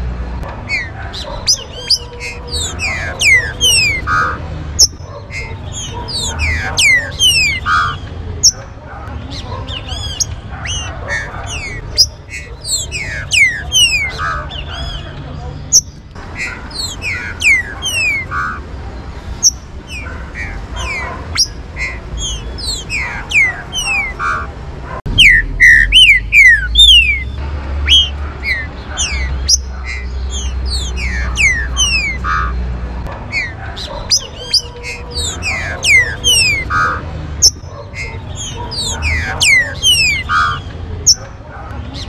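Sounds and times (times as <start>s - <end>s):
birds singing whistled notes: 0.4s - 42.0s.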